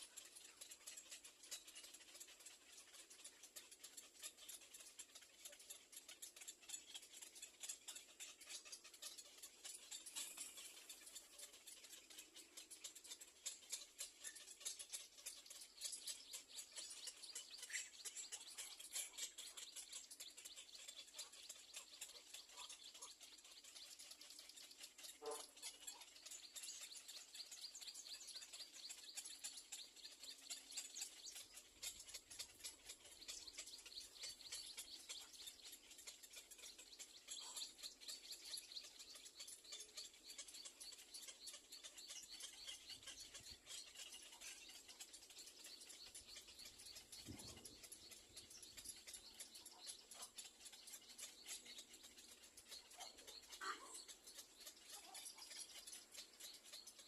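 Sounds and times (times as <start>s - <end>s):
nestling birds chirping: 0.0s - 57.0s.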